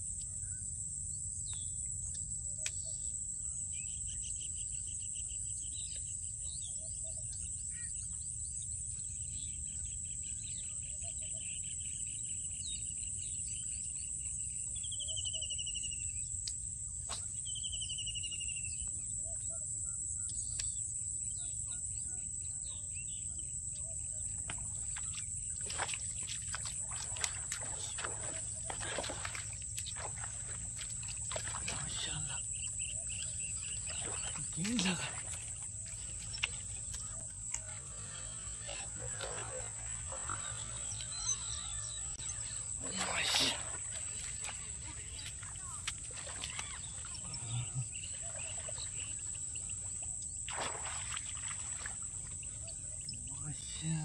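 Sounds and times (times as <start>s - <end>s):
insects droning: 0.0s - 54.0s
birds calling: 8.9s - 54.0s.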